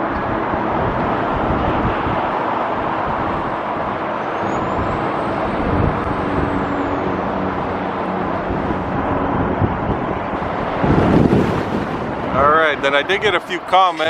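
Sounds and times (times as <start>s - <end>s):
cars passing on street: 0.0s - 14.0s
wind buffeting microphone: 0.0s - 14.0s.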